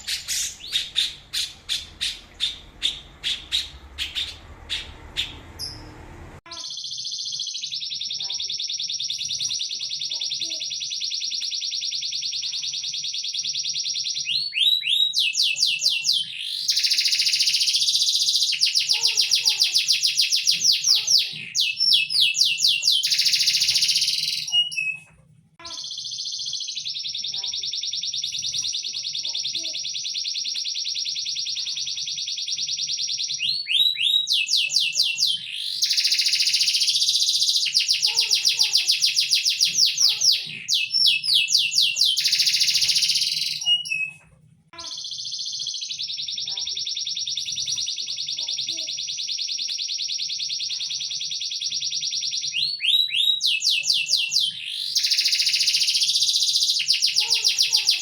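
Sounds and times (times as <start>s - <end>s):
songbird singing: 0.0s - 25.1s, 25.7s - 44.2s, 44.8s - 58.0s.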